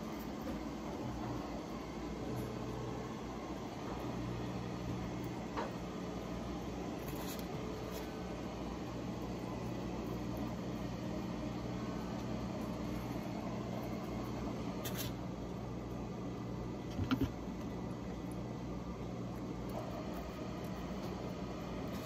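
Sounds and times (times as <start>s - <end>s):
air fryer fan humming: 0.0s - 22.0s.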